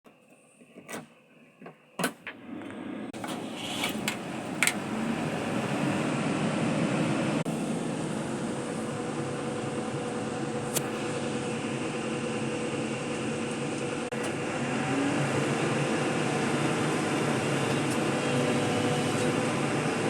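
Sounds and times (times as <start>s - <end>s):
excavator diesel engine running: 3.0s - 20.0s.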